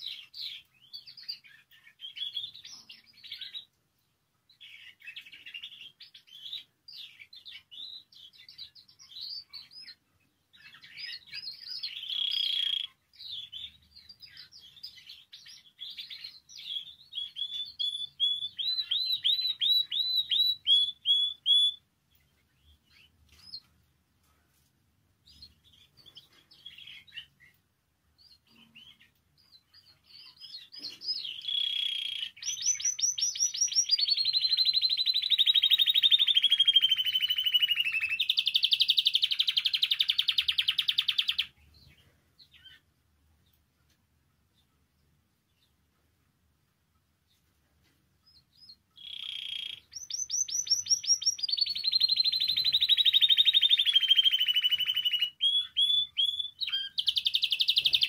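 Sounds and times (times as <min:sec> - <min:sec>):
canary singing trills and chirps: 0:00.0 - 0:24.0, 0:25.1 - 0:58.0.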